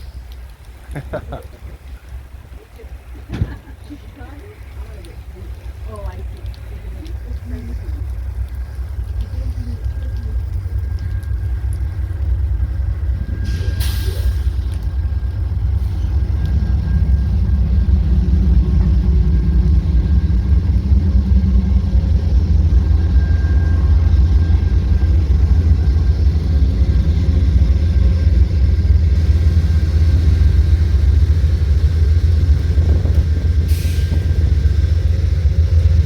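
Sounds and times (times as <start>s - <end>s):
diesel train rumbling: 0.0s - 36.0s.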